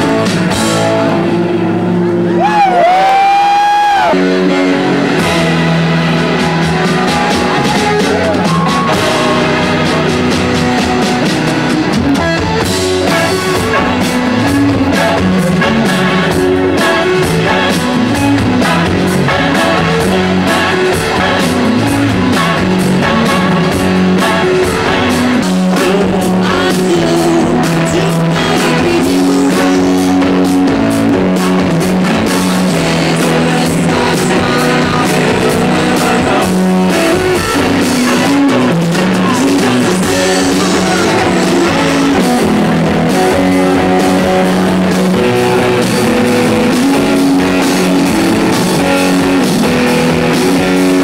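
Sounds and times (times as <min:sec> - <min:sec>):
rock band playing: 0:00.0 - 0:51.0.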